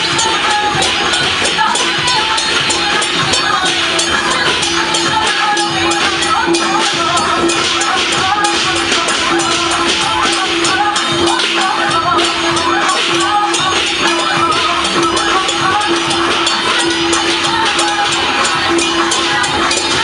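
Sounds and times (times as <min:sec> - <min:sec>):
busy percussion: 0:00.0 - 0:20.0
wavering melody over drone: 0:00.0 - 0:20.0.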